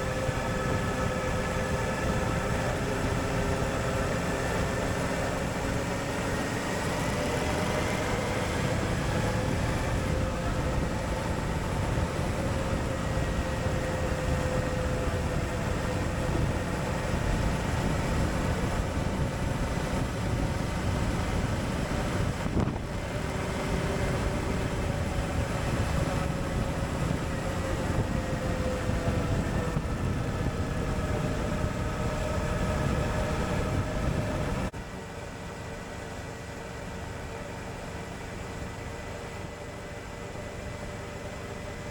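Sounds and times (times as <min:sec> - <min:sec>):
wind rush over microphone: 0:00.0 - 0:34.8.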